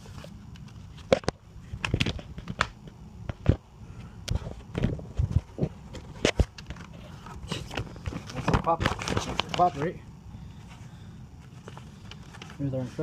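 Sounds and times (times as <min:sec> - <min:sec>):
paper handling clicks and rustles: 0:00.0 - 0:03.6, 0:04.3 - 0:10.0, 0:11.4 - 0:13.0.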